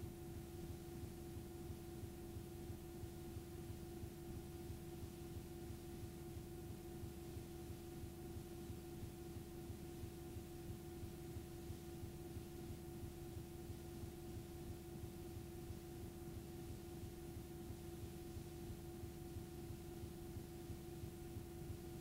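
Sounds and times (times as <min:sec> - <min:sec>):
faint steady hum tone: 0:00.0 - 0:22.0
tape hiss: 0:00.0 - 0:22.0.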